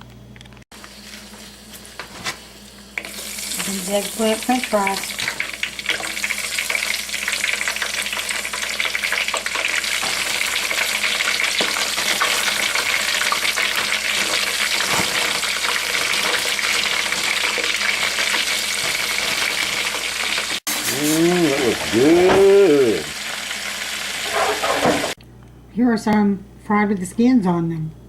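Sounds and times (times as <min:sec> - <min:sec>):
vegetables frying in hot oil: 0:00.8 - 0:25.2.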